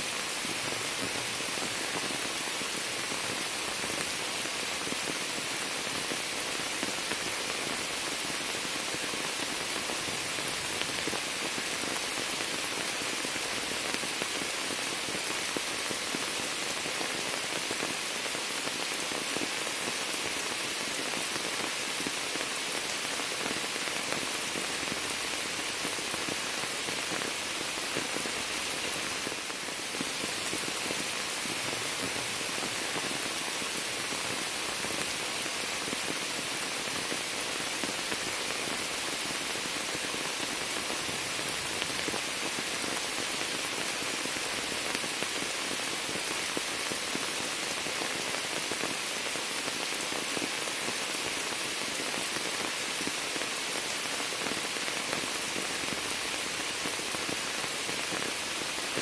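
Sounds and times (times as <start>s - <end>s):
rain pattering on water and leaves: 0.0s - 59.0s.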